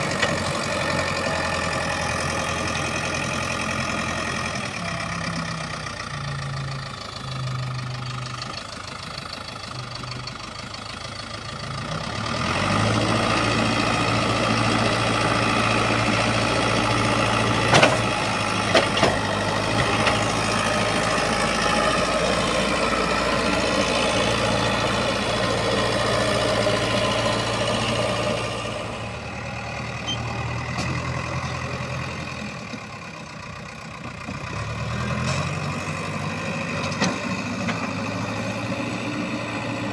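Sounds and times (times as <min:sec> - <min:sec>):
diesel engine idling and revving: 0:00.0 - 0:39.9.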